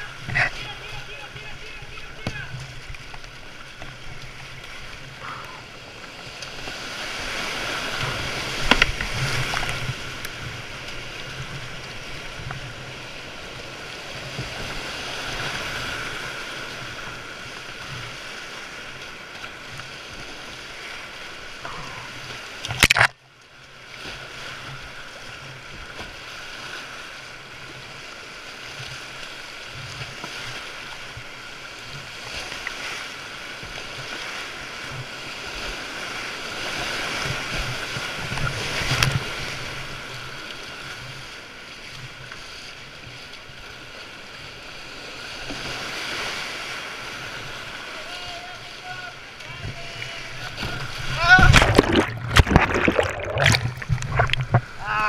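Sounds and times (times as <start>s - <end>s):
paddle splashes: 0.0s - 55.0s.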